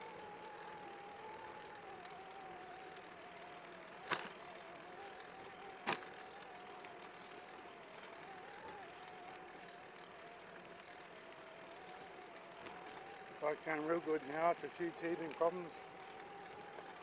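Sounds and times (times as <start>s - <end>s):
trike whine: 0.0s - 17.0s
wheels rolling on concrete: 0.0s - 17.0s.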